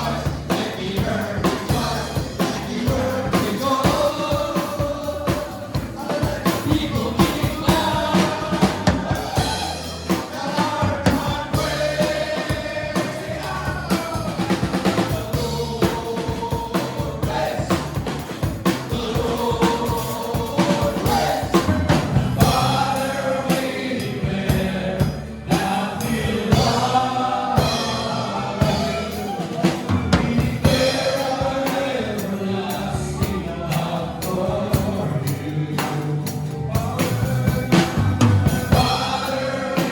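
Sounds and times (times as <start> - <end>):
band playing: 0.0 - 39.9
drum kit beat: 0.0 - 39.9
group singing worship song: 0.0 - 39.9.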